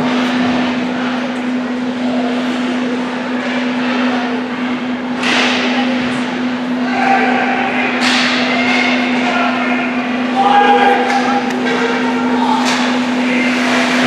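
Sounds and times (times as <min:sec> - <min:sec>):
crowd noise: 0:00.0 - 0:14.0
steady hum: 0:00.0 - 0:14.0.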